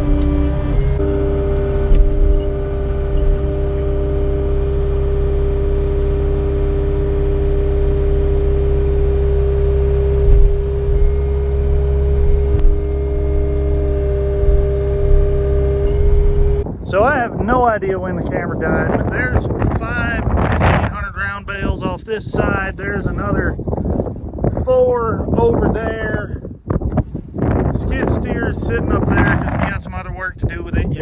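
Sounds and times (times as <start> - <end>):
diesel engine rumbling: 0.0 - 31.0
steady whine: 0.0 - 31.0.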